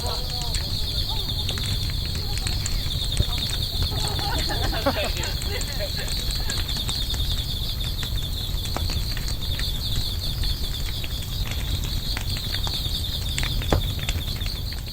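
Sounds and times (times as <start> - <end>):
campfire crackling: 0.0 - 14.9.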